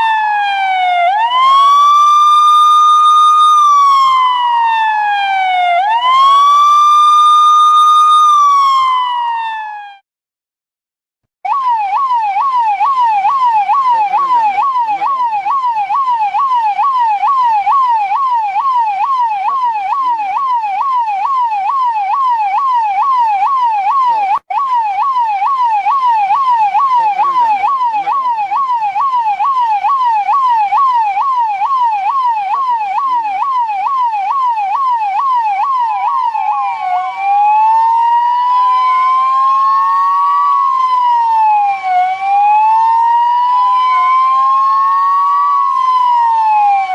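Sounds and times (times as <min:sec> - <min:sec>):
police siren warbling: 0:00.0 - 0:10.0, 0:11.5 - 0:46.9.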